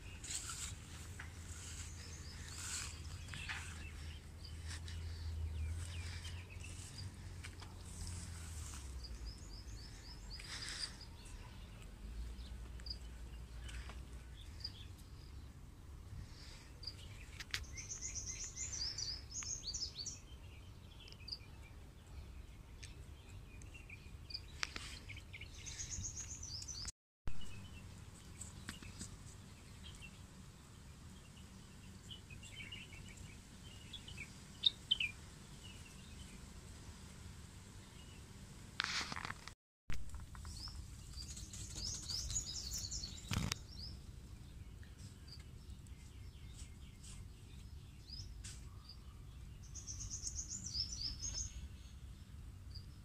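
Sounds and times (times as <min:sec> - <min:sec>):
small birds chirping: 0:00.0 - 0:39.5, 0:40.1 - 0:53.0.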